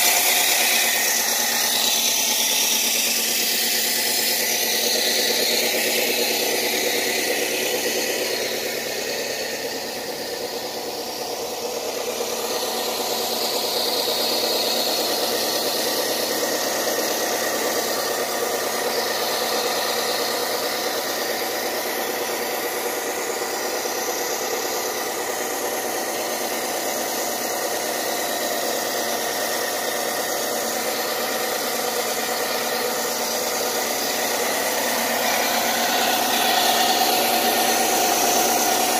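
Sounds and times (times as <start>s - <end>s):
saw motor droning: 0.0s - 38.9s.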